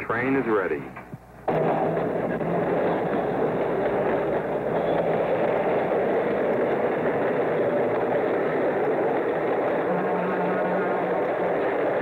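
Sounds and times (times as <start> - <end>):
train rumble: 1.5 - 12.0.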